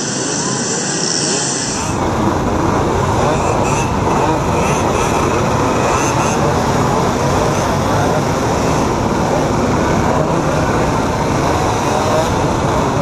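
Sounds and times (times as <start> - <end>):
moped engines droning: 0.0 - 13.0.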